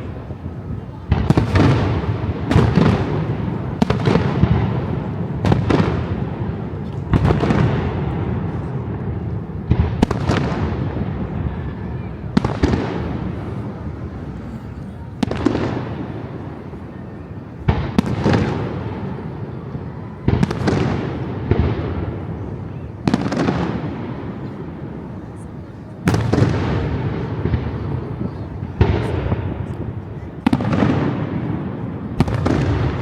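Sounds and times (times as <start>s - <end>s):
fireworks bursting with rumble: 0.0s - 33.0s.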